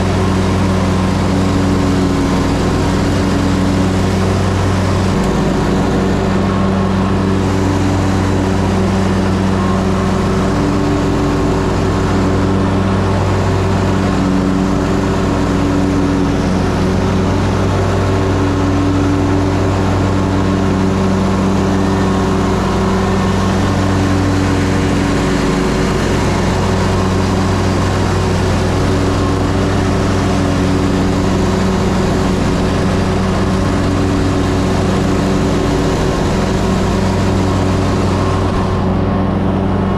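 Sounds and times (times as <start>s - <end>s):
mower engine humming: 0.0s - 39.9s.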